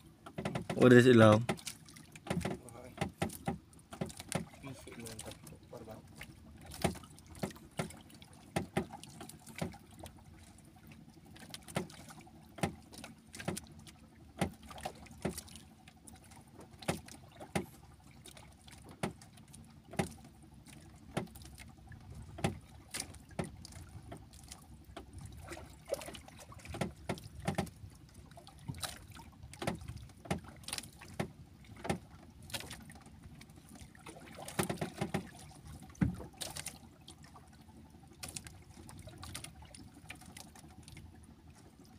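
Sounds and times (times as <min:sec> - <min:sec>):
boat knocking: 0:00.0 - 0:40.8
water lapping against a canoe: 0:00.0 - 0:41.9.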